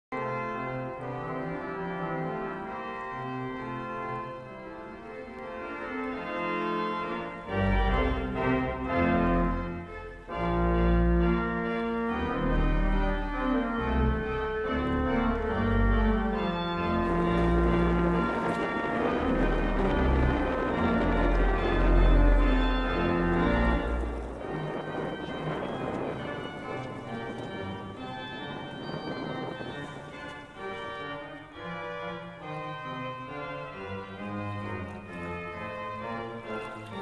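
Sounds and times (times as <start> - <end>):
organ music with sustained chords: 0.1 - 37.0.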